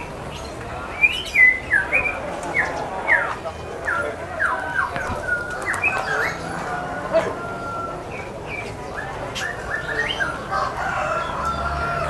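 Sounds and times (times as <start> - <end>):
many birds chirping: 0.0 - 12.0.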